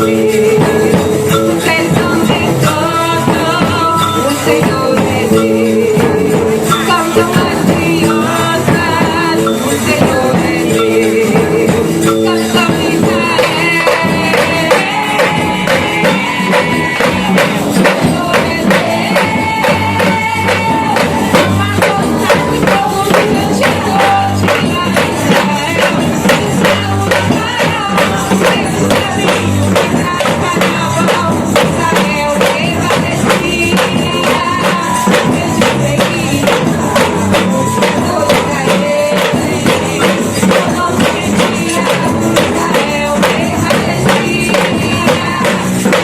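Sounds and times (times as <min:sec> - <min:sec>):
band playing gospel music: 0:00.0 - 0:46.0
person singing: 0:00.0 - 0:46.0
tambourine: 0:00.0 - 0:46.0.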